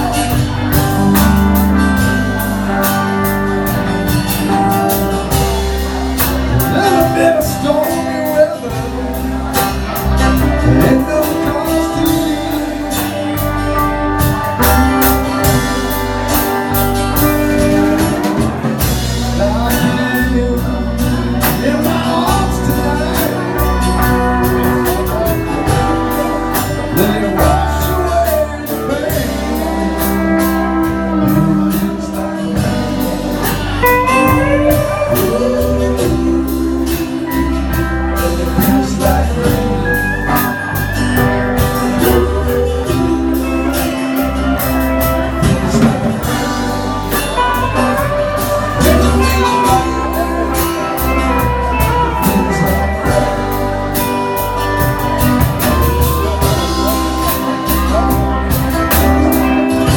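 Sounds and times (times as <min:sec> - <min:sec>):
electric guitar with bent notes: 0:00.0 - 0:59.9
live blues-rock band: 0:00.0 - 0:59.9
person singing: 0:00.0 - 0:59.9.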